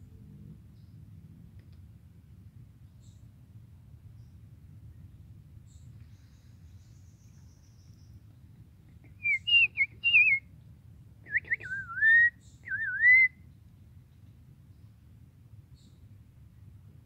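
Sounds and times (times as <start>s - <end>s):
faint forest background: 0.0s - 17.0s.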